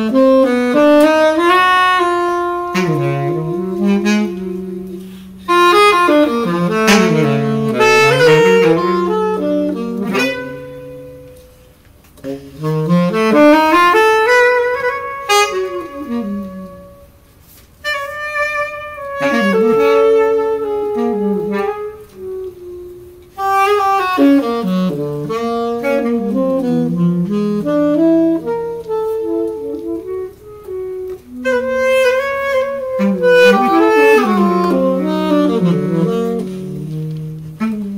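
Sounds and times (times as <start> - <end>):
saxophones playing in harmony: 0.0 - 37.9.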